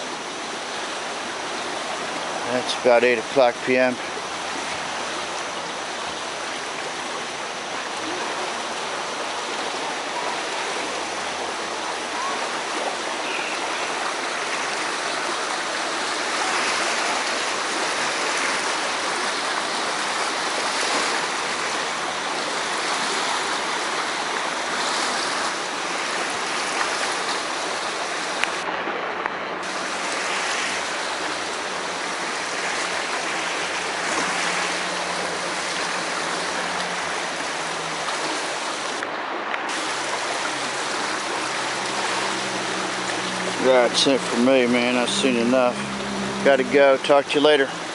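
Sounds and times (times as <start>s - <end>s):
river rushing: 0.0s - 47.9s.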